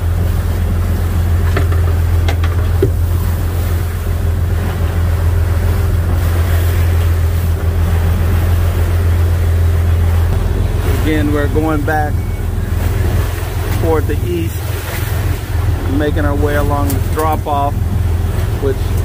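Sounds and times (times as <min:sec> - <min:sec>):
boat engine droning: 0:00.0 - 0:19.0
wake water rushing: 0:00.0 - 0:19.0.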